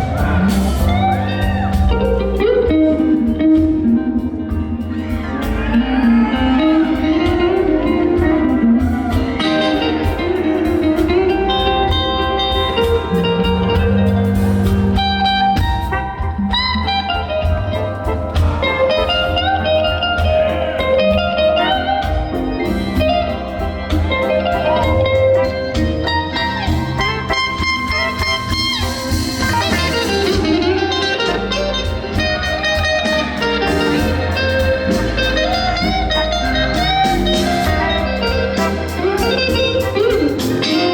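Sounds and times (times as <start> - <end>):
bass and drums: 0.0 - 40.9
electric guitar lead: 0.0 - 40.9.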